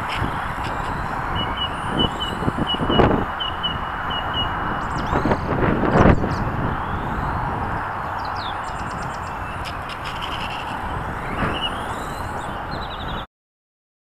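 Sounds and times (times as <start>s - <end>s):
steady rushing noise: 0.0s - 13.2s
birds chirping: 0.0s - 13.3s.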